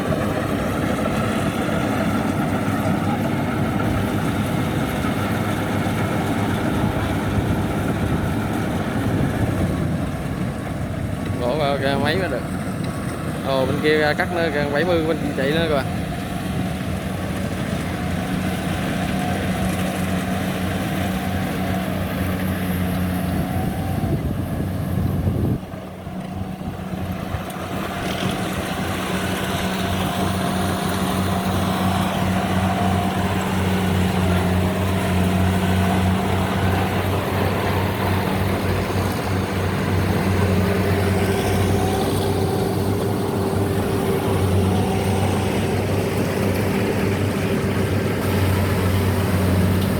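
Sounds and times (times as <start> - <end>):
diesel engine humming: 0.0 - 49.9.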